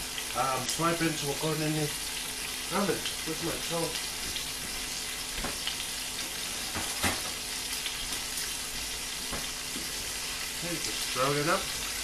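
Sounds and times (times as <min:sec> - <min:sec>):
duck frying in hot oil: 0:00.0 - 0:12.0.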